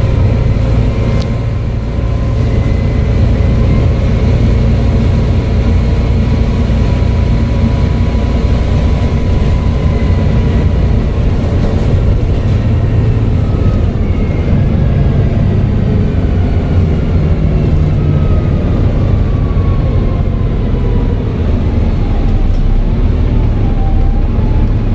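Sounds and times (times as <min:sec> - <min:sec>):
bus diesel engine rumble: 0:00.0 - 0:24.9.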